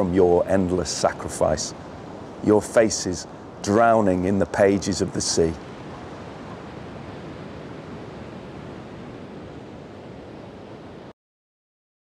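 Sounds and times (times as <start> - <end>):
surf breaking on a beach: 0.0 - 11.1.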